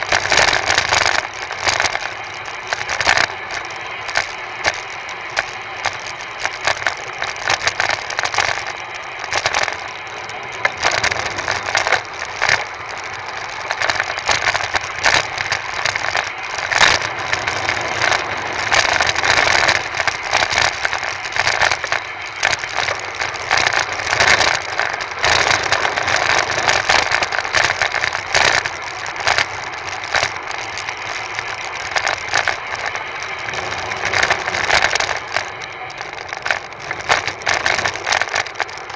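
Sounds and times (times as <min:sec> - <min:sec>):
wind and tyre noise: 0:00.0 - 0:38.9.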